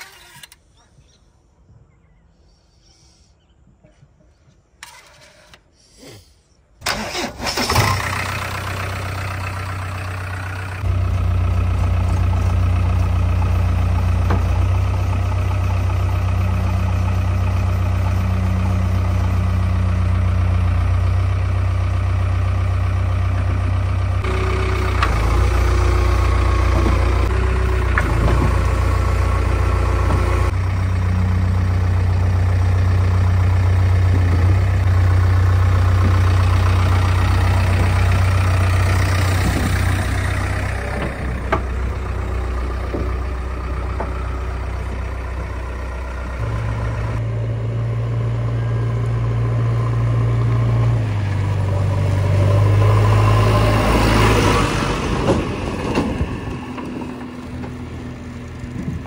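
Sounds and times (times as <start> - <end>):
diesel engine cranking and running: 0.0 - 0.7, 6.8 - 59.0.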